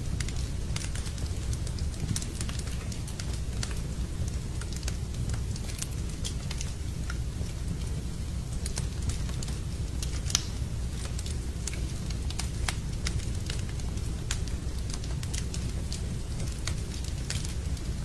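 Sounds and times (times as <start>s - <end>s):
rain: 0.0s - 18.0s
steady low rumble: 0.0s - 18.0s
wood fire crackling and popping: 0.0s - 18.0s.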